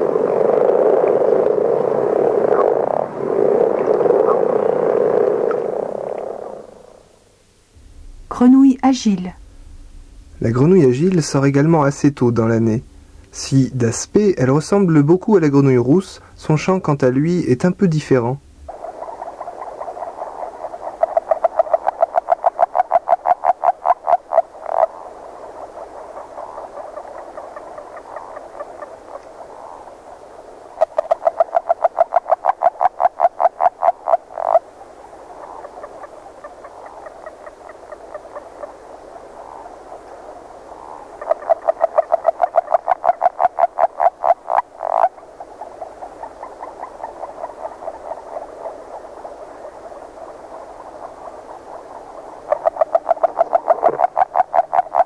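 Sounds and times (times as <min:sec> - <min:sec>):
frogs calling rapid notes: 0:00.0 - 0:07.1, 0:13.4 - 0:55.0
fainter frogs calling: 0:00.0 - 0:07.7, 0:10.4 - 0:55.0.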